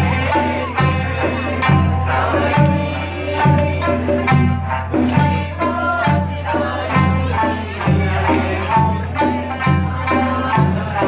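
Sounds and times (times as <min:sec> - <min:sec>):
people singing folk song: 0:00.0 - 0:11.0.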